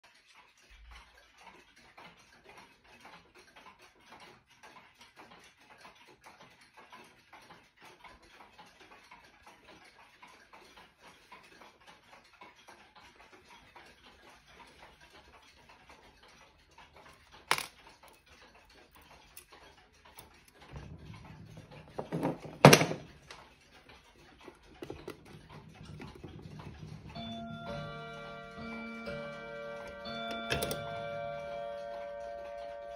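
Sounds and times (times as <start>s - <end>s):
clocks ticking: 0.0s - 32.9s.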